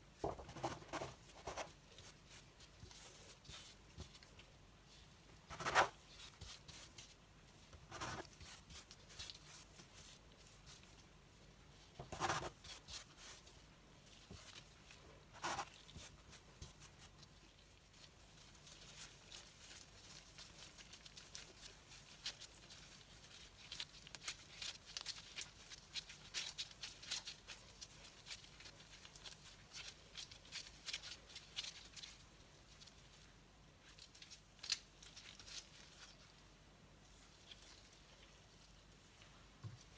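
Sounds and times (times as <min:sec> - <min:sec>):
hands kneading dough: 0:00.0 - 0:39.9.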